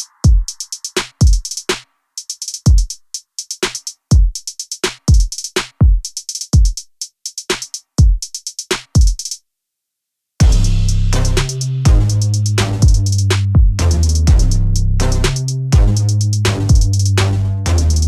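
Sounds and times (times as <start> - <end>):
electronic drum-machine beat: 0.0 - 9.3, 10.4 - 18.0.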